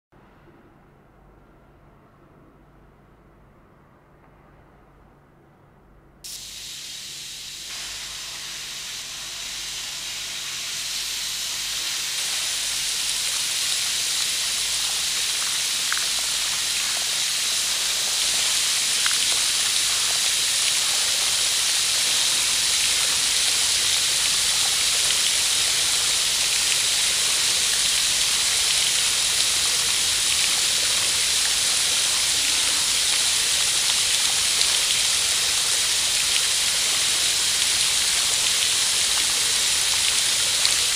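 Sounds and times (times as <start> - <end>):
fountain jets spraying: 6.3 - 40.9.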